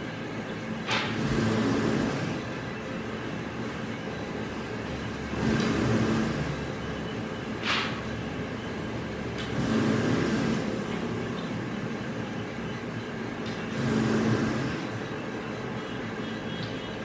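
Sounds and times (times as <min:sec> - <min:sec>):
mechanical running noise with hum: 0:00.0 - 0:17.0.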